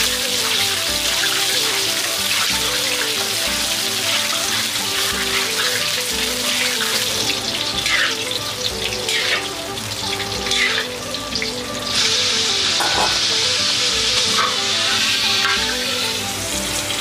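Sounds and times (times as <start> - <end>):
background music: 0.0 - 17.0
eggplant sizzling in hot oil: 0.0 - 17.0.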